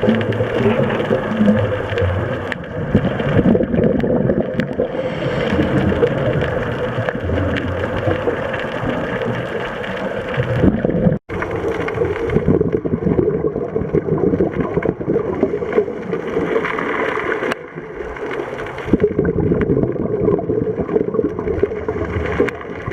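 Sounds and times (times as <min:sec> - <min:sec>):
muffled underwater noise: 0:00.0 - 0:19.6
scuba bubbles gurgling: 0:00.0 - 0:22.9.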